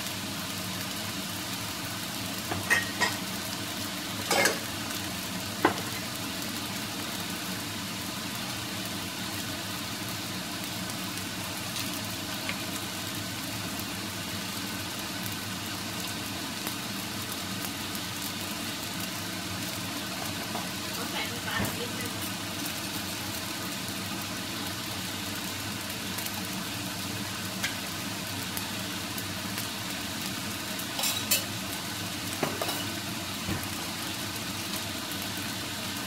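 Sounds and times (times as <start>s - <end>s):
rice sizzling in a wok: 0.0s - 36.0s.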